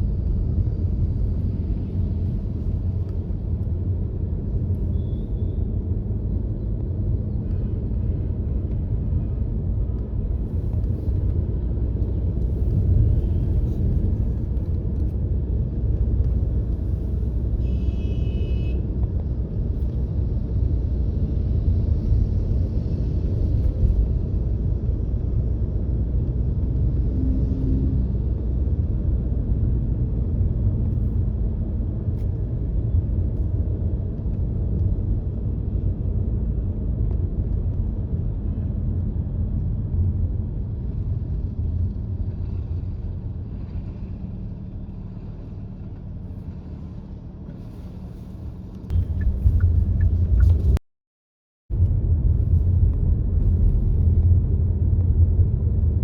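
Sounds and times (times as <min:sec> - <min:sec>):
car engine and road noise: 0:00.0 - 0:50.8, 0:51.7 - 0:56.0.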